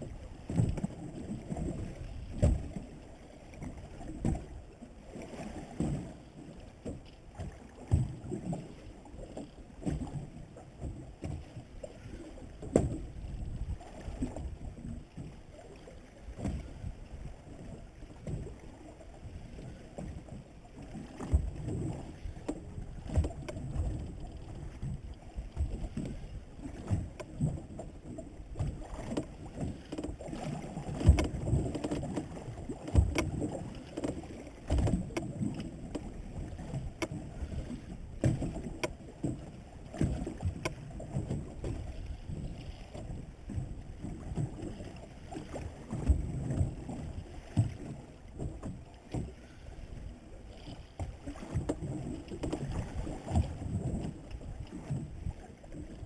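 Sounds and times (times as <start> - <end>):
water sloshing against boat hull: 0.0 - 56.0.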